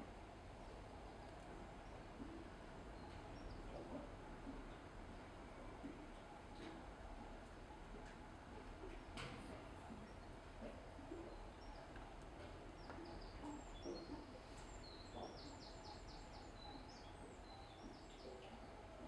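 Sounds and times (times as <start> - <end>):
low steady background noise: 0.0 - 19.0
songbird chirps: 0.7 - 6.9, 7.5 - 19.0.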